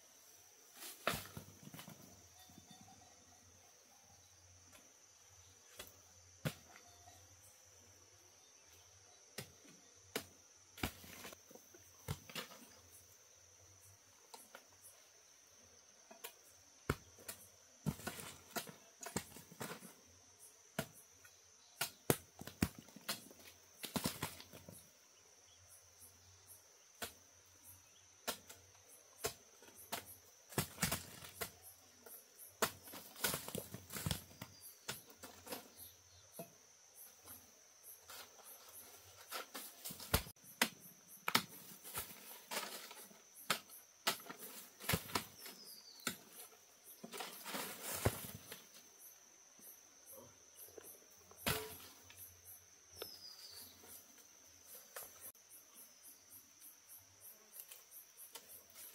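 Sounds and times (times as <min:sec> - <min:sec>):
insect drone: 0:00.0 - 0:58.9.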